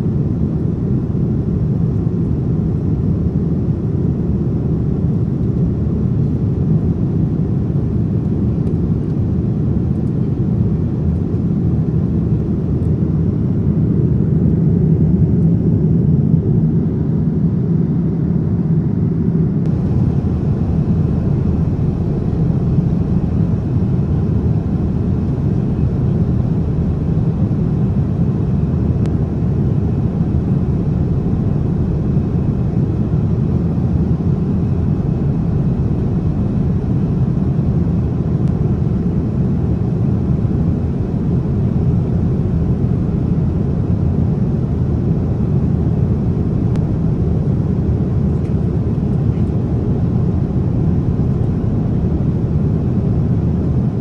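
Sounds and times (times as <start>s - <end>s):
airplane cabin engine rush: 0.0s - 54.0s.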